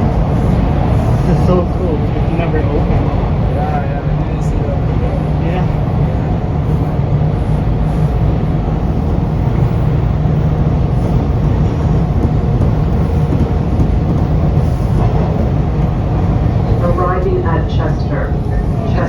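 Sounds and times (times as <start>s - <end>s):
faint train whine: 0.0s - 19.0s
subway train wheels rumbling: 0.0s - 19.0s.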